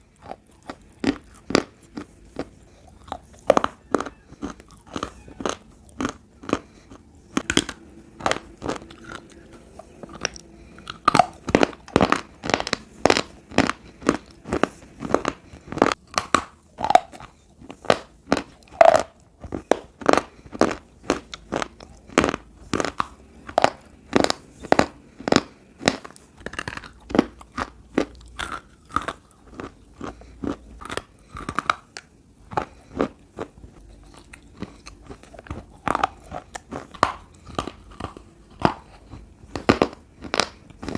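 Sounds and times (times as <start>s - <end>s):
chewing crunchy clay: 0.0s - 40.9s.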